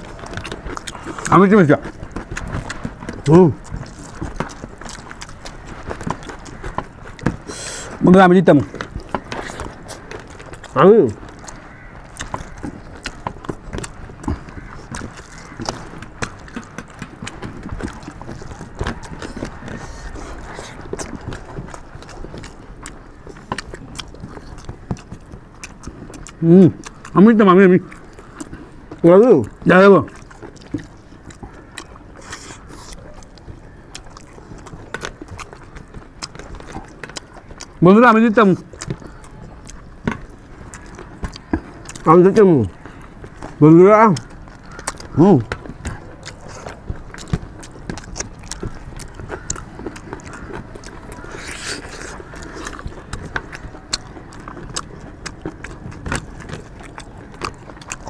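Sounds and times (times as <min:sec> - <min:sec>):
people chewing food: 0:00.0 - 0:58.0.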